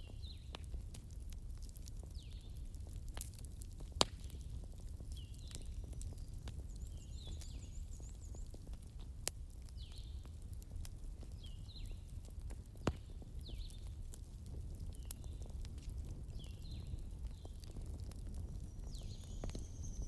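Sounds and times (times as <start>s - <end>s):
wood fire crackling: 0.0s - 20.0s
sharp fire pops: 0.2s - 20.0s.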